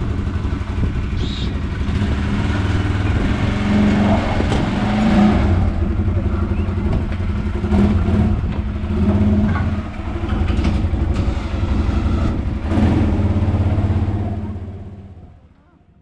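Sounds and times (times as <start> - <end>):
quad bike engine running: 0.0 - 15.6.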